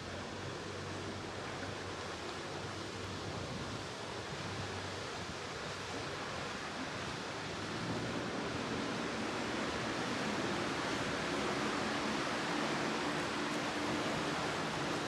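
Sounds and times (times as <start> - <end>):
low engine hum: 0.0 - 15.0
water rushing along a hull: 0.0 - 15.0.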